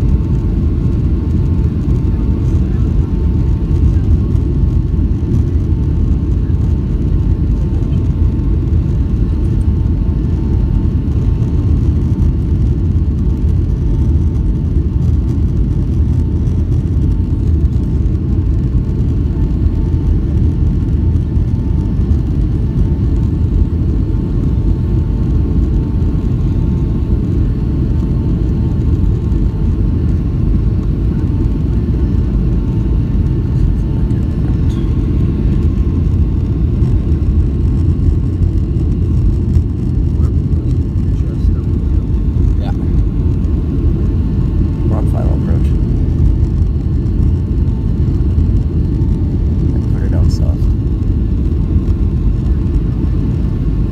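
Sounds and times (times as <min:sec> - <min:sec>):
engine and air rumble: 0:00.0 - 0:53.9
faint steady whine: 0:00.0 - 0:53.9.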